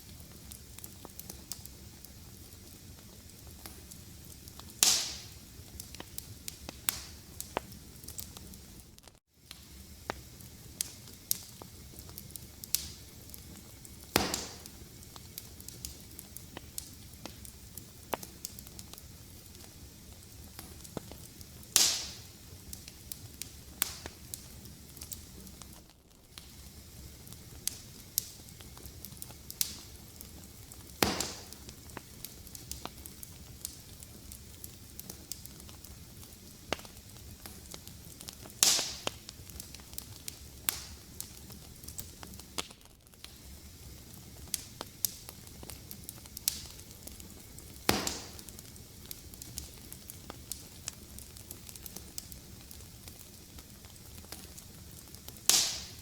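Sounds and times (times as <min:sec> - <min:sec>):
fire popping: 0:00.0 - 0:56.0
fireplace fire crackling: 0:00.0 - 0:56.0.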